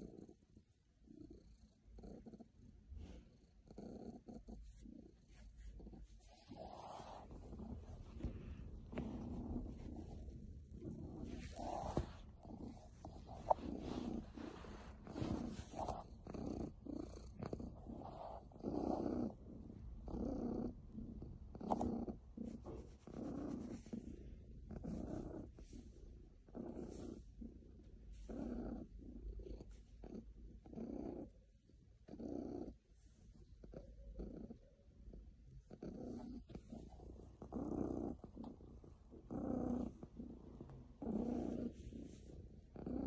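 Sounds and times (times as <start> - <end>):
cat purring: 0.0 - 43.0.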